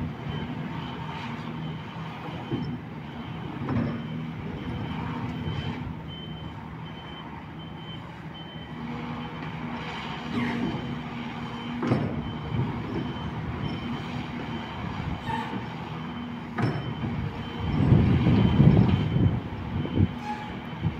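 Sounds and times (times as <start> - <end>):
diesel engine running: 0.0 - 20.9
reversing alarm beeps: 0.1 - 20.9.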